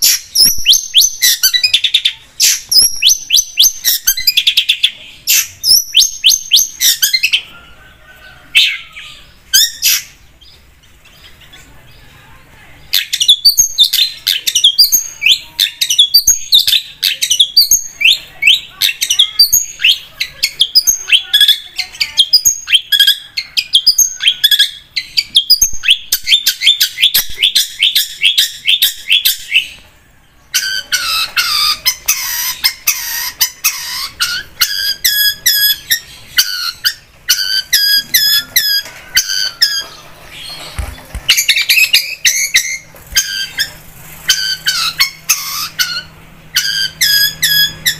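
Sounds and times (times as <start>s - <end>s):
shrike singing: 0.0s - 47.9s.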